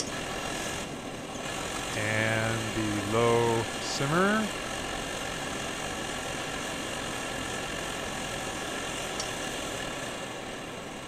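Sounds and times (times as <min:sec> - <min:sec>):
stove burners roaring: 0:00.0 - 0:11.0.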